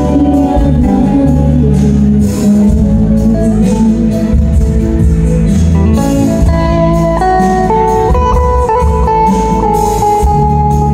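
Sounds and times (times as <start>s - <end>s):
electric guitar lead line: 0.0s - 10.9s
live band through pa: 0.0s - 10.9s.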